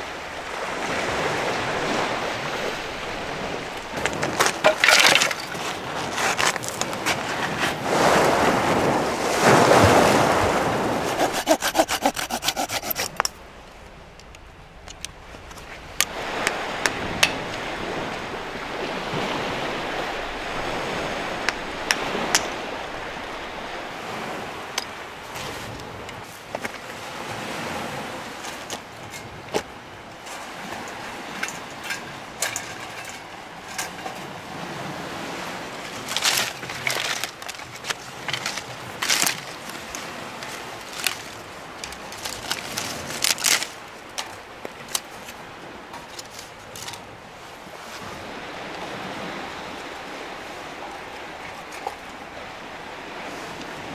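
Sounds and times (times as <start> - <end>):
surf washing on shore: 0.0 - 53.9.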